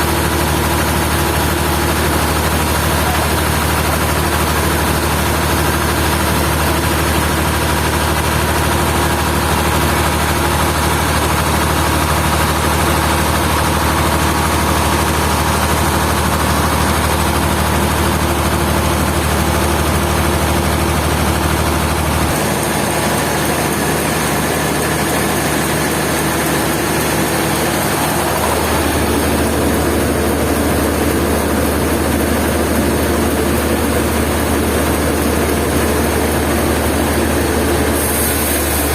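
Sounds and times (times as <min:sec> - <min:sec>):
sawmill machinery droning: 0:00.0 - 0:38.9.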